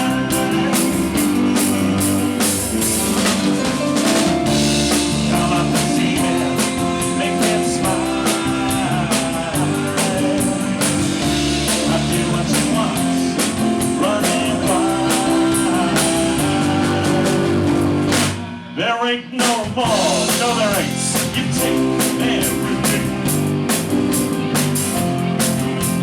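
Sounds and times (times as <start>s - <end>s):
bass guitar: 0.0s - 18.8s, 19.8s - 26.0s
electric guitar: 0.0s - 18.8s, 19.9s - 26.0s
drum kit beat: 0.0s - 26.0s.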